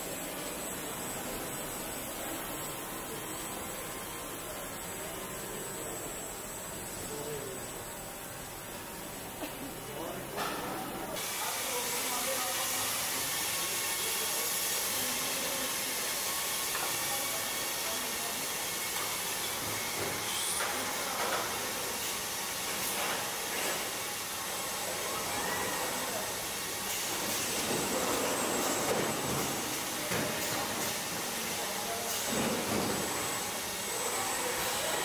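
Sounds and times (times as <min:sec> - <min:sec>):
hissing assembly line machinery: 0:00.0 - 0:35.0.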